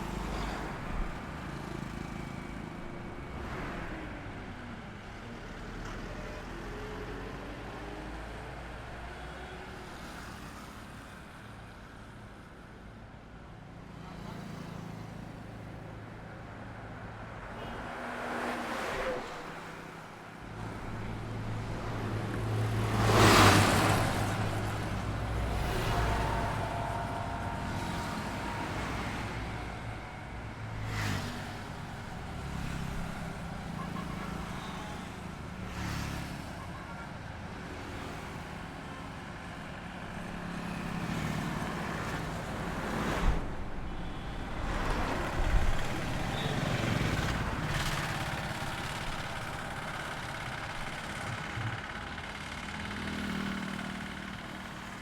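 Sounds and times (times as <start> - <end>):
highway traffic passing: 0.0 - 55.0.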